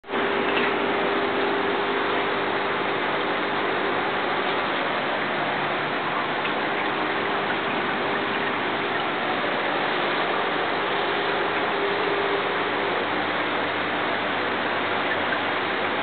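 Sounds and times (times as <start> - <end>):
faint steady hum: 0.0 - 16.0
air bubbles breaking at water surface: 0.1 - 16.0.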